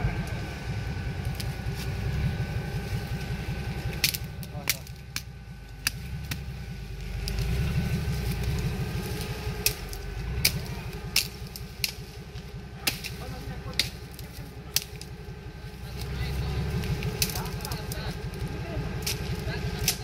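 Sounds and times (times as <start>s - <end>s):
engine running at low revs: 0.0s - 20.0s.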